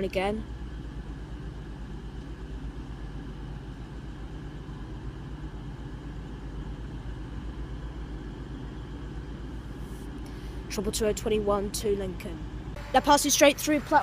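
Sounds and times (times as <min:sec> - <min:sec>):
train diesel engine drone: 0:00.0 - 0:14.0.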